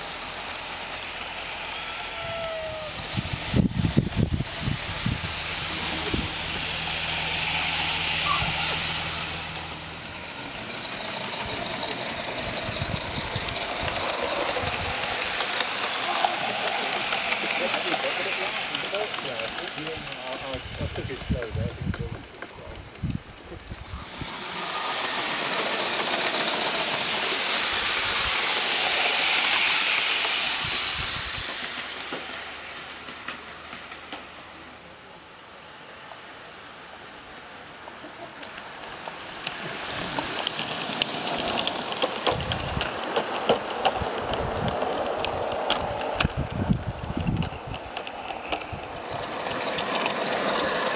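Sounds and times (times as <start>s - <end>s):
steam hiss: 0.0s - 21.5s, 23.5s - 34.7s, 36.7s - 46.2s, 47.9s - 50.9s.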